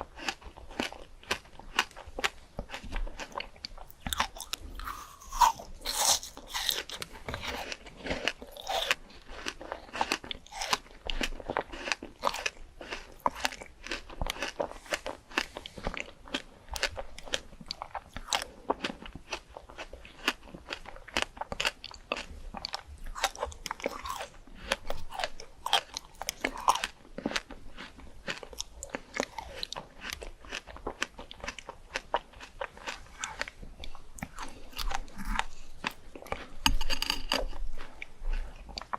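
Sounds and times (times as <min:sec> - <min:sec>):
crisp fruit bitten and chewed: 0:00.0 - 0:38.9.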